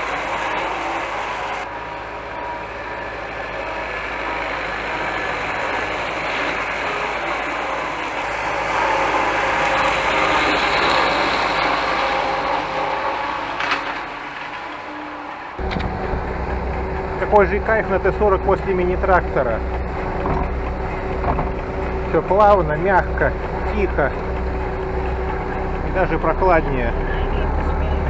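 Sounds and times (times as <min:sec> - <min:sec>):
rotary mower cutting grass: 0:00.0 - 0:27.8
tractor diesel engine running: 0:00.0 - 0:28.0.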